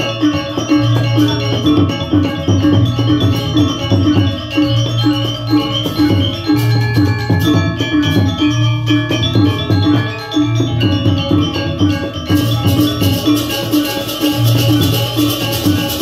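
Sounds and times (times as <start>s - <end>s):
drum and percussion: 0.0s - 16.0s
gamelan ensemble playing: 0.0s - 16.0s
metallophones ringing: 0.0s - 16.0s.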